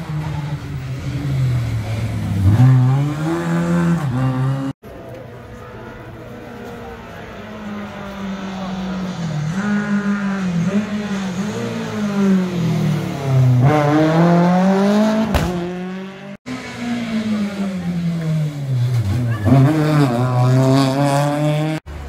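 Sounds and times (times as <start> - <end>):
rally car engine at high revs: 0.0 - 4.8, 6.4 - 22.0.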